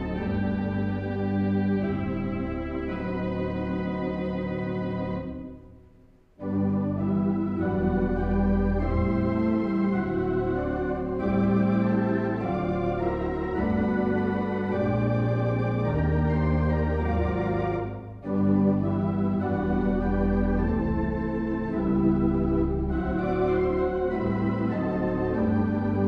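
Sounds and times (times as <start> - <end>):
deep organ bass: 0.0 - 5.6, 6.4 - 26.0
church organ chords: 0.0 - 5.8, 6.4 - 26.0.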